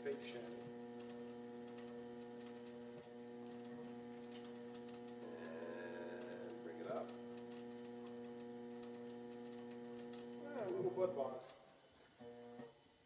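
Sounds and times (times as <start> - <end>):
potter's wheel electrical hum: 0.0 - 13.0.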